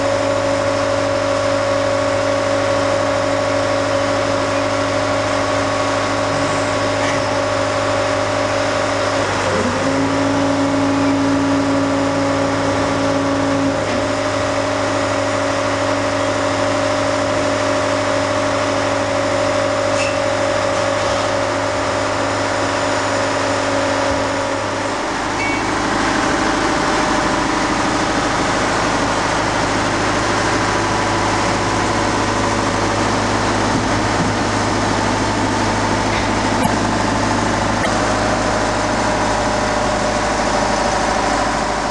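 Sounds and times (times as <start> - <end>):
large engine humming: 0.0 - 41.9.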